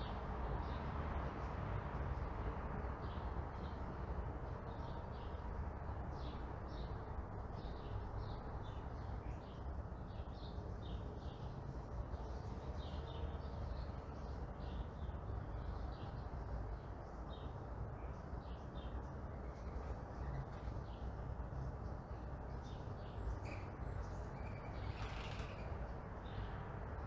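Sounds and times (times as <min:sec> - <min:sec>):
distant traffic rumble: 0:00.0 - 0:27.0
small birds chirping: 0:04.5 - 0:27.0.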